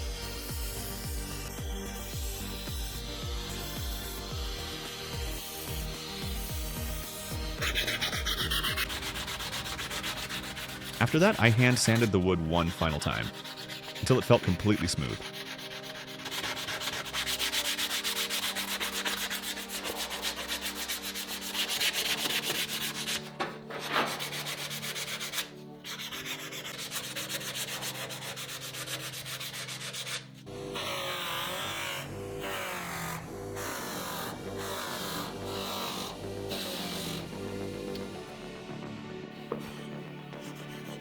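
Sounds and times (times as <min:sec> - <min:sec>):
background music: 0:00.0 - 0:41.0
sandpaper rubbing on wood: 0:02.4 - 0:38.2, 0:39.5 - 0:41.0.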